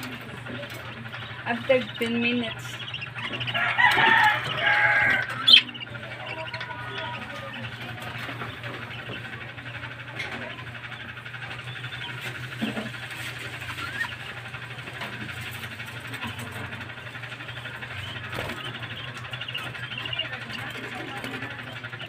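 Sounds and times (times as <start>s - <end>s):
budgerigars chattering and warbling: 0.0s - 22.0s
steady low hum: 0.0s - 22.0s.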